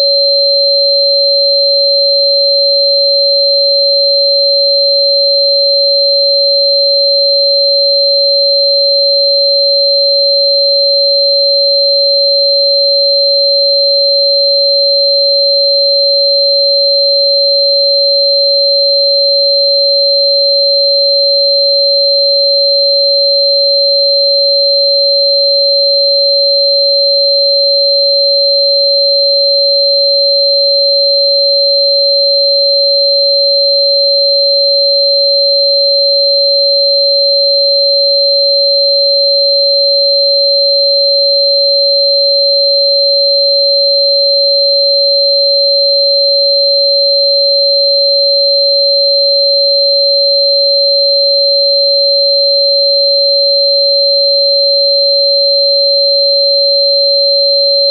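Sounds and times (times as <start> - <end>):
mid-pitched sine tone: 0.0 - 57.9.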